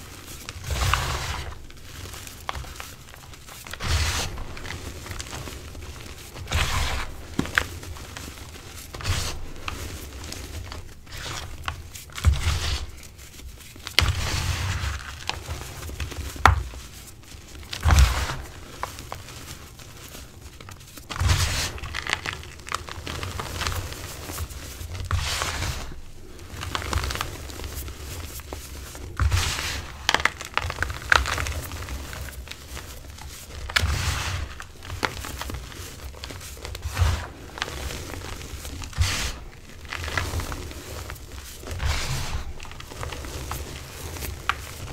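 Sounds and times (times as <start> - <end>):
hands crumbling chalk powder: 0.0 - 44.9.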